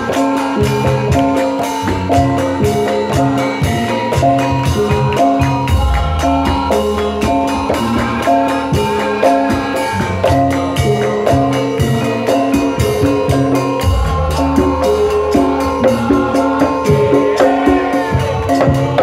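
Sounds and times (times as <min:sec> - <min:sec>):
hand drums: 0:00.0 - 0:19.0
jingling percussion: 0:00.0 - 0:19.0
struck ringing melody notes: 0:00.0 - 0:19.0.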